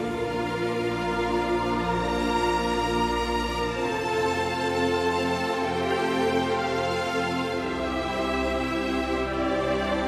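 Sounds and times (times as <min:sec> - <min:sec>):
slow sustained music chords: 0:00.0 - 0:10.0.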